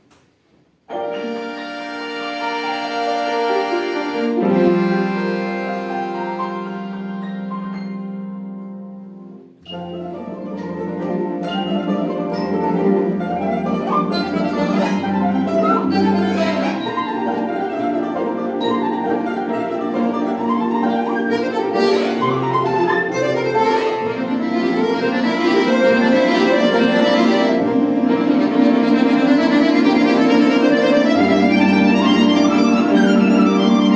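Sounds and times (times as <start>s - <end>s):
folk orchestra with accordions: 1.0s - 8.4s, 9.7s - 33.9s.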